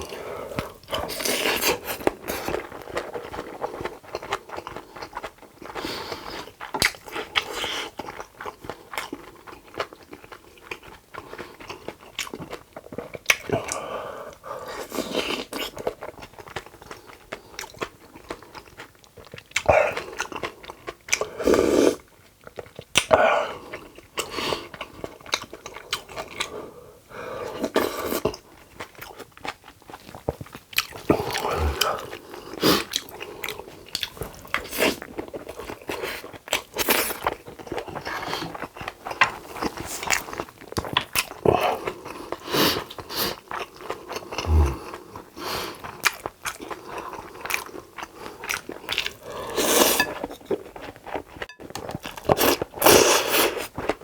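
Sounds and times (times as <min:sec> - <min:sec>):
person chewing and smacking: 0:00.0 - 0:21.3, 0:22.0 - 0:26.5, 0:27.5 - 0:54.0.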